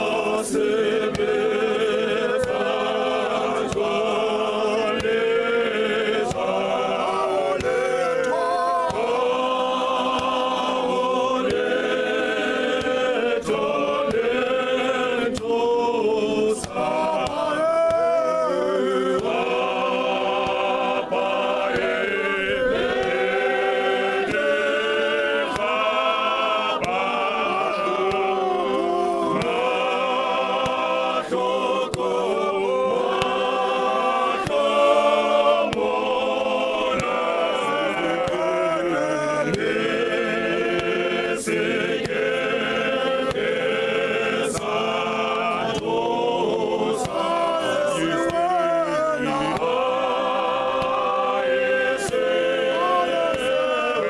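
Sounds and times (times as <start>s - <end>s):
male choir singing in harmony: 0.0s - 54.0s.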